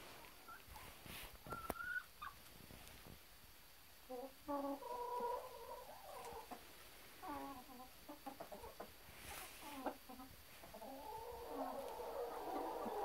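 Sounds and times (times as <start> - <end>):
hens clucking: 0.0 - 2.5, 4.1 - 13.0
rustle: 0.0 - 13.0.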